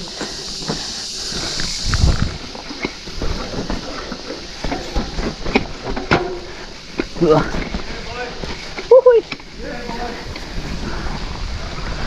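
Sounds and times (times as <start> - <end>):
bike rattling over rocks: 0.0 - 12.0.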